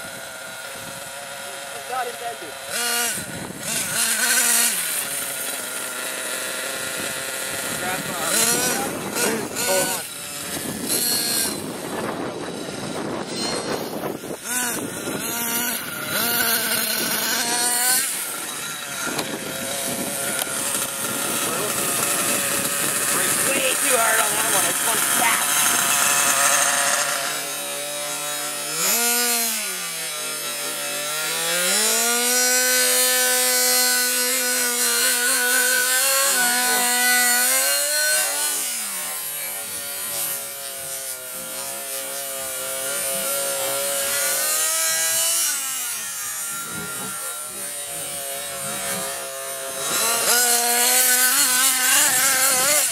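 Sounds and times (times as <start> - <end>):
small engine revving whine: 0.0 - 52.9.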